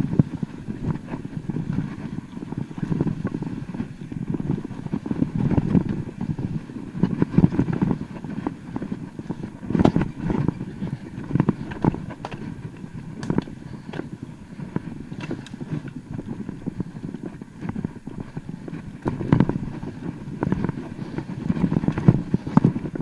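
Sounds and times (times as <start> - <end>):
bike knocking and rattling: 0.0 - 23.0
bike tyres rumbling on trail: 0.0 - 23.0.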